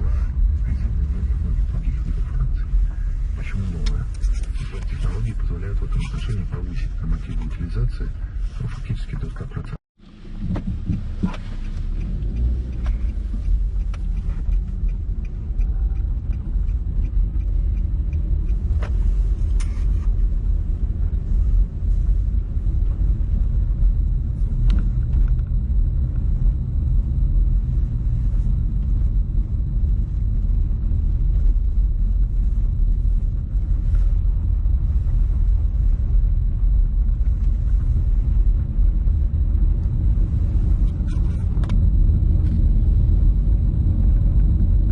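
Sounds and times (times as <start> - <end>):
vehicle rumbling: 0.0 - 44.9.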